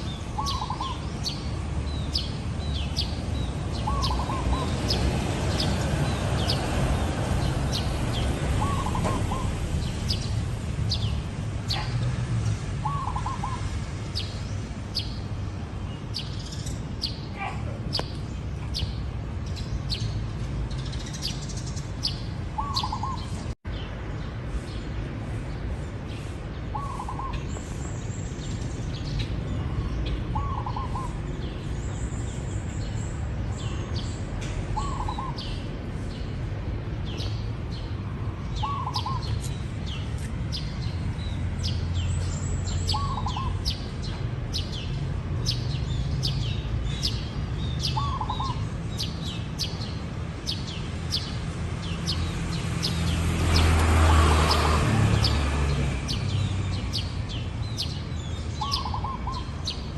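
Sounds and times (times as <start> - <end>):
high chirps of small birds: 0.0 - 59.9.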